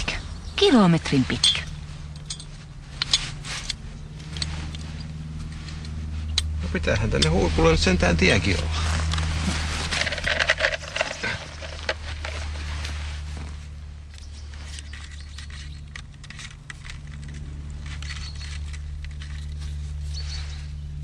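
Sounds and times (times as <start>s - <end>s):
faint rustles and ticks: 0.0s - 21.0s
low hum: 0.0s - 21.0s.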